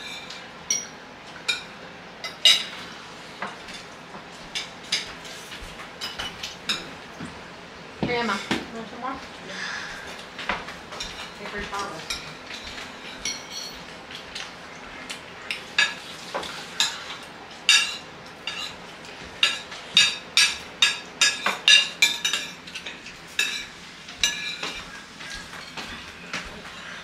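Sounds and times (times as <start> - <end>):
cutlery clinking on plates: 0.0 - 3.9, 4.5 - 7.4, 10.4 - 14.5, 15.5 - 18.8, 19.4 - 27.0.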